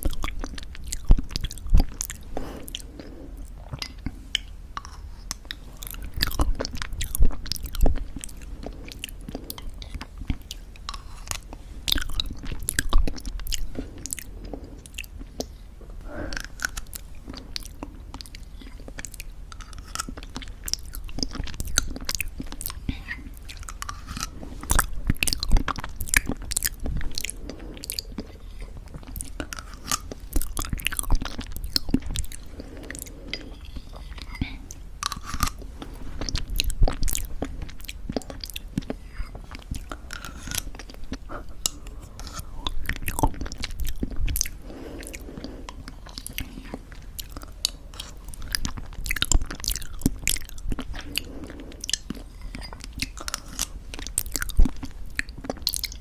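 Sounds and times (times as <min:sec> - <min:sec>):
crunchy chewing: 0:00.0 - 0:56.0
wet mouth sounds: 0:00.0 - 0:56.0.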